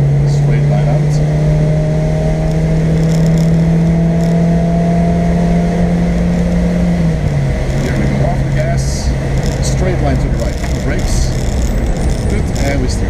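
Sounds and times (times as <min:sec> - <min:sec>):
car engine from inside cabin: 0:00.0 - 0:13.0
road noise: 0:00.0 - 0:13.0.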